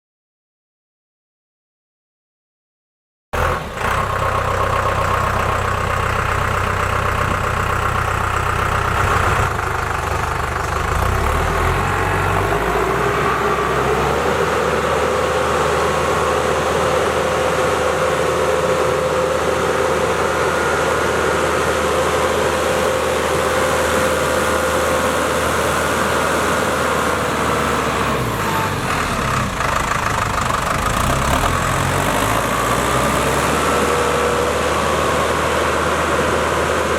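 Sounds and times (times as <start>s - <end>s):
tractor diesel engine running: 3.4s - 36.9s.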